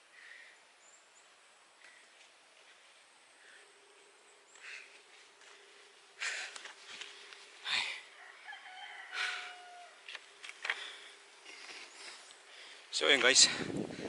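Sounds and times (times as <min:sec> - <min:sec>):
faint steady hum: 0:00.0 - 0:12.9.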